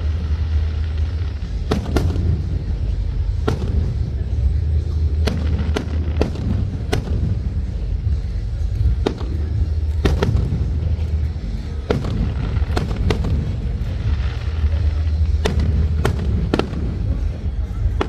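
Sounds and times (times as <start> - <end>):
fireworks cracking and banging: 0.0 - 18.0
low rumble: 0.0 - 18.0.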